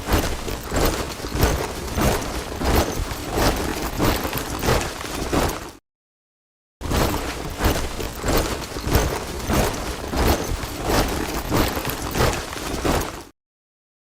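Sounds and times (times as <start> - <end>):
soldiers marching in step: 0.0 - 5.8, 6.8 - 13.3.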